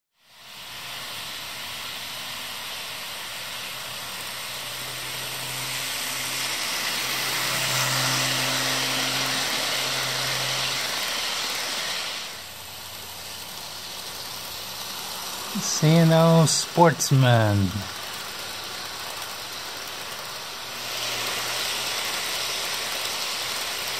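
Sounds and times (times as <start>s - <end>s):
model train rolling on track: 0.2s - 23.9s.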